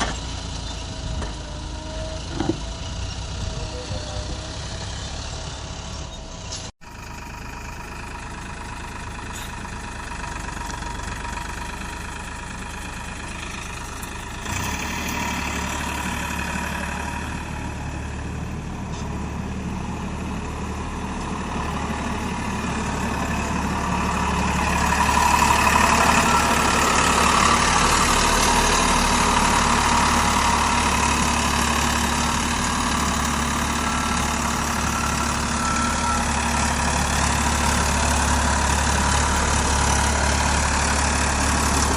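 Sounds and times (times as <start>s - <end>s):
diesel engine under load: 0.0s - 41.9s
tractor engines idling: 0.0s - 41.9s.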